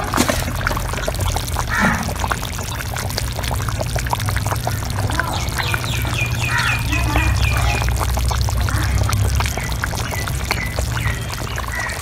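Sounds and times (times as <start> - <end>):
curry boiling with popping bubbles: 0.0 - 12.0.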